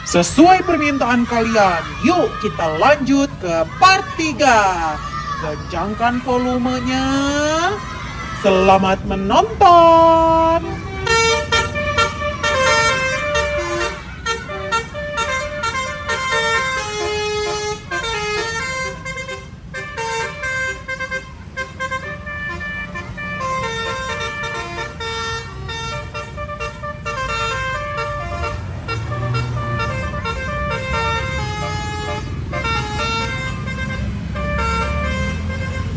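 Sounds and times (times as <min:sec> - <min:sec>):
multi-tone bus horn tune: 0:00.0 - 0:35.9.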